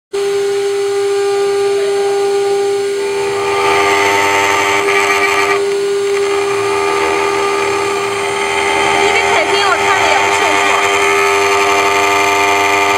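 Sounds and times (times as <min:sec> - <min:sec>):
rough metal cutting noise: 0:00.2 - 0:12.9
router spindle whining: 0:00.2 - 0:12.9.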